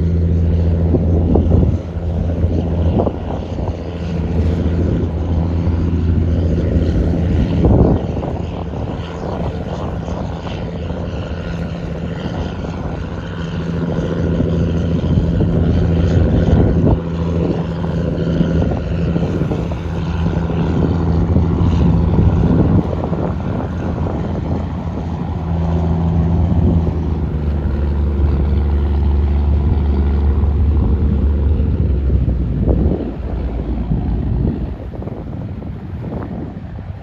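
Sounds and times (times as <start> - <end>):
boat diesel engine droning: 0.0 - 37.0.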